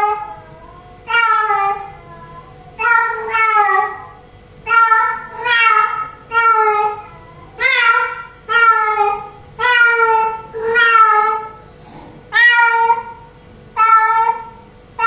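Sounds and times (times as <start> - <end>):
cat meowing loudly: 0.0 - 11.6, 12.3 - 13.2.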